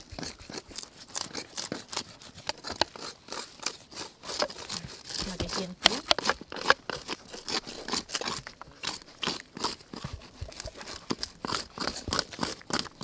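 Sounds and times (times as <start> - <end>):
knife scraping fish scales: 0.0 - 13.0.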